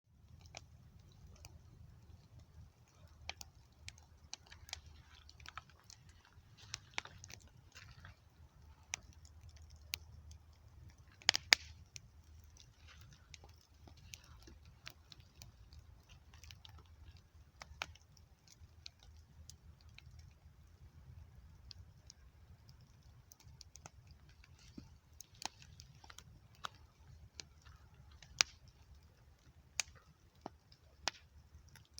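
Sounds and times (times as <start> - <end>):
low steady rumble: 0.1 - 31.7
campfire crackling and popping: 0.1 - 31.9.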